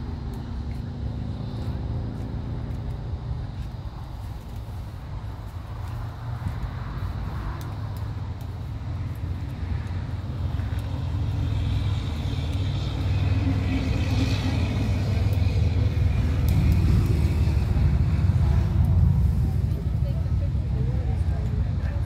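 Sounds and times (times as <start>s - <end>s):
distant rocket engine roar: 0.0s - 22.0s.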